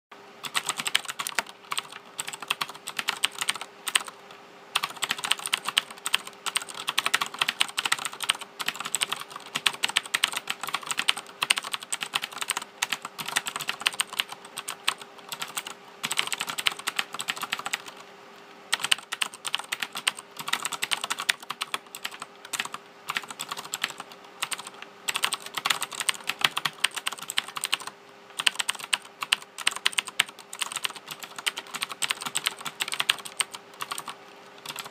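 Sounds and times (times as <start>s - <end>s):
fast mechanical keyboard typing: 0.4s - 18.0s, 18.7s - 34.9s.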